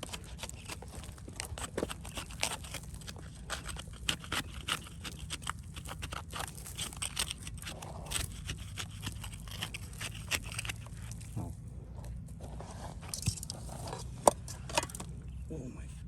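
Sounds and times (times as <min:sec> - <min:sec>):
scraping and crunching soil: 0:00.0 - 0:15.6.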